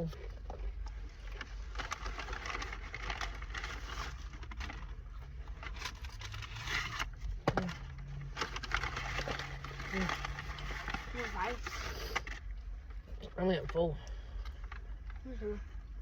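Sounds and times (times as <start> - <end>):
steady low hum: 0.0 - 16.0
food packaging crinkling: 0.1 - 13.1.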